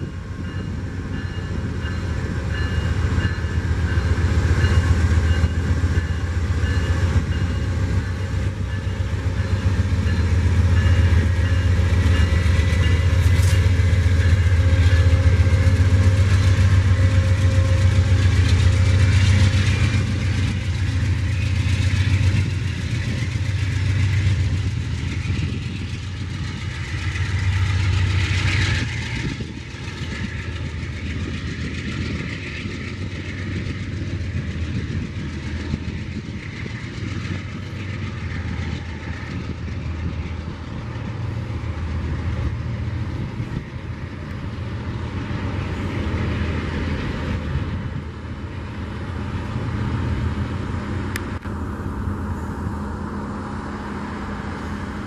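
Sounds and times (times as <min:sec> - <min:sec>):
diesel locomotive engine drone: 0:00.0 - 0:55.0
train cars rumbling on rails: 0:00.0 - 0:55.0.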